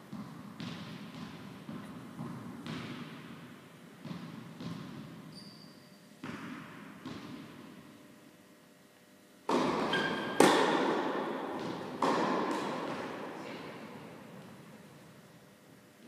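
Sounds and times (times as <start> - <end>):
tennis ball knocks in echoing hall: 0.0 - 8.1, 9.4 - 15.4.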